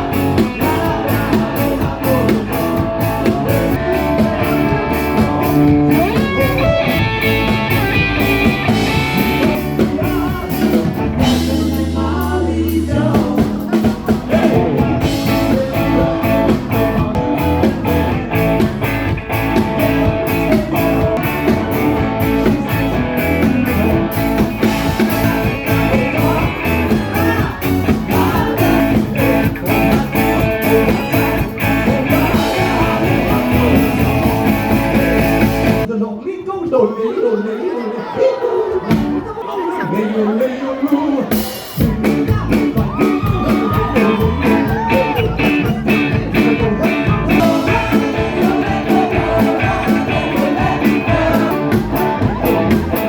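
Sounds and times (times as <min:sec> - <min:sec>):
drum kit beat: 0:00.0 - 0:35.9, 0:38.9 - 0:39.4, 0:41.2 - 0:53.0
electric guitar: 0:00.0 - 0:35.9, 0:41.3 - 0:53.0
person singing: 0:00.0 - 0:36.0, 0:37.0 - 0:53.0.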